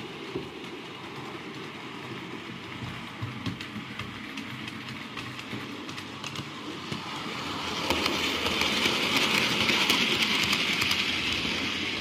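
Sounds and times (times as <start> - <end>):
model train running: 0.0 - 12.0.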